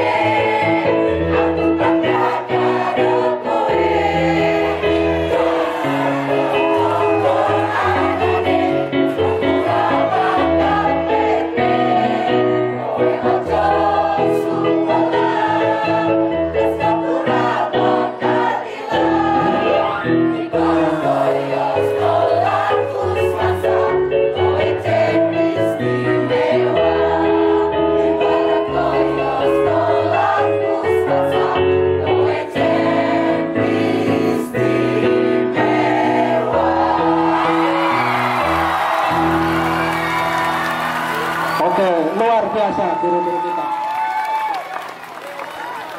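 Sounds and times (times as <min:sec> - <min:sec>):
mixed choir singing: 0:00.0 - 0:41.7.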